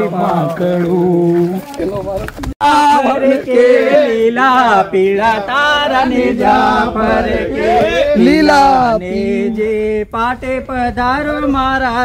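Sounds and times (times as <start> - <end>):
men singing folk song: 0.0 - 12.0.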